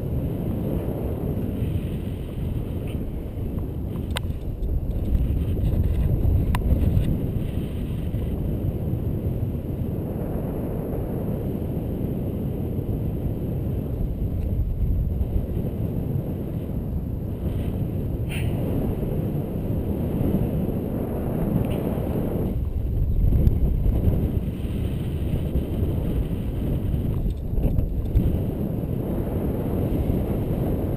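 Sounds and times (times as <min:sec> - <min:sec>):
radial aircraft engine droning: 0:00.0 - 0:30.9
rush of airflow: 0:00.0 - 0:30.9.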